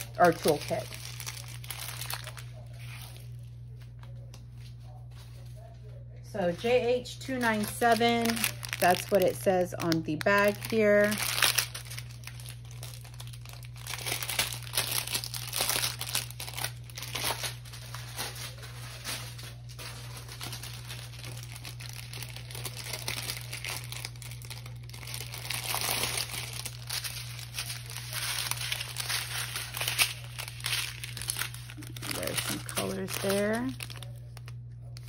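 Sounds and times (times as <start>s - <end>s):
plastic packaging crinkling: 0.0s - 4.2s, 6.4s - 35.0s.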